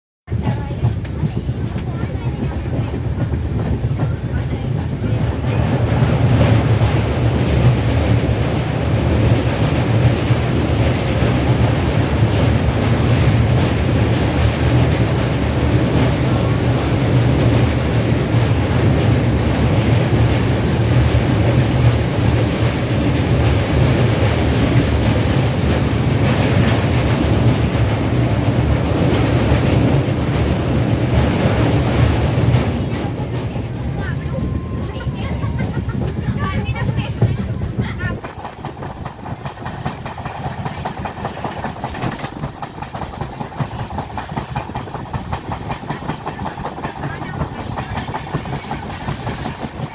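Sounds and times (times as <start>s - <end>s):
train rumbling along track: 0.3s - 49.9s.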